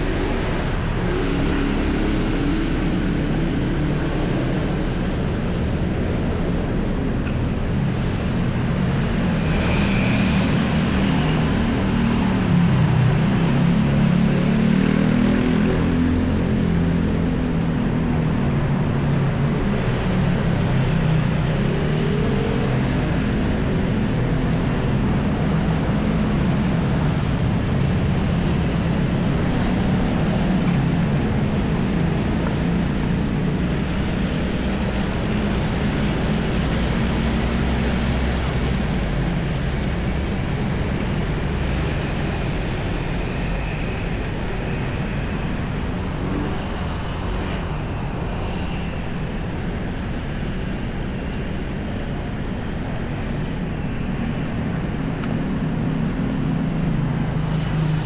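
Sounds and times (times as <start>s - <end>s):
street traffic: 0.0s - 58.0s.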